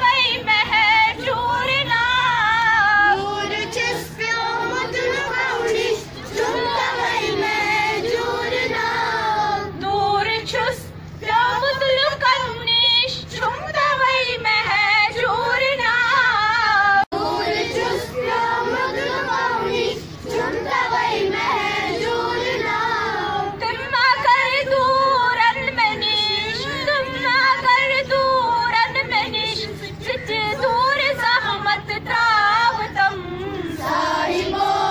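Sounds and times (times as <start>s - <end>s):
girls and women singing together: 0.0s - 34.9s.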